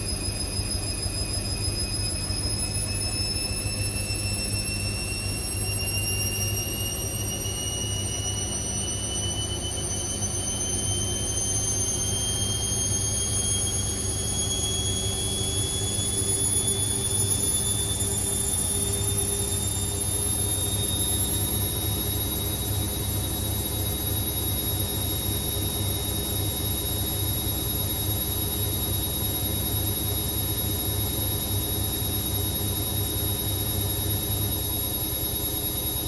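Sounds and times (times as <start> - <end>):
washing machine drum spinning up: 0.0 - 36.0.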